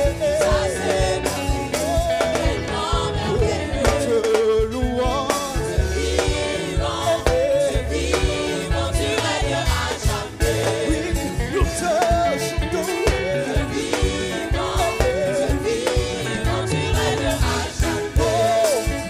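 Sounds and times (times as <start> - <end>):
band with steady beat and bass: 0.0 - 19.0
choir singing: 0.0 - 19.0
lead singer: 0.0 - 19.0.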